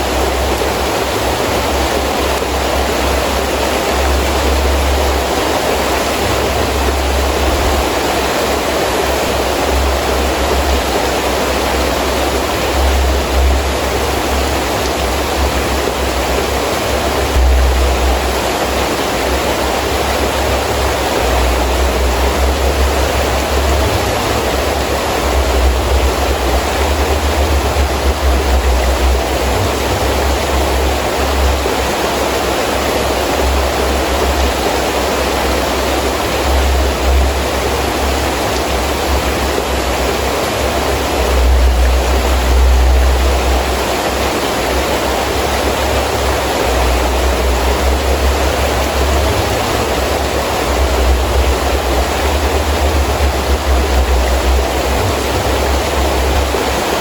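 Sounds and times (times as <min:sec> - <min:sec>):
heavy rain: 0:00.0 - 0:57.0
wind gusts rumbling: 0:00.0 - 0:57.0.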